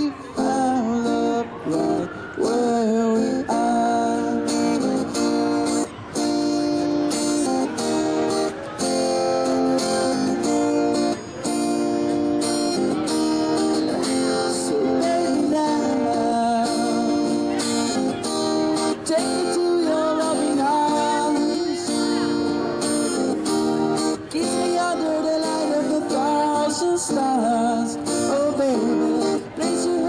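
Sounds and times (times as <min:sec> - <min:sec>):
acoustic guitar strumming chords: 0:00.0 - 0:30.0.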